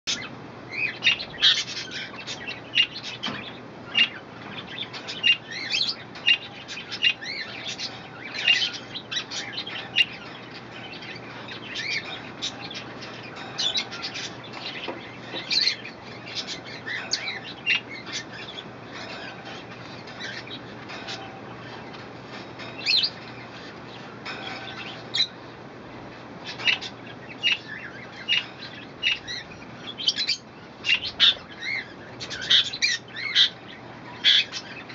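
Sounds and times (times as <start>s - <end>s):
budgerigars chirping: 0.1s - 25.5s, 26.4s - 34.9s.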